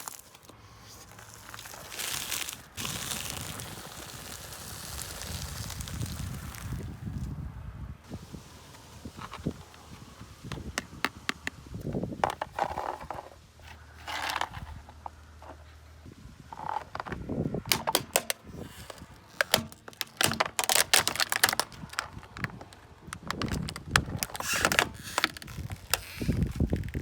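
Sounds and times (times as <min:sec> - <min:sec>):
toy masks crunching under tyre: 0:00.0 - 0:07.3, 0:08.7 - 0:15.8, 0:16.4 - 0:27.0.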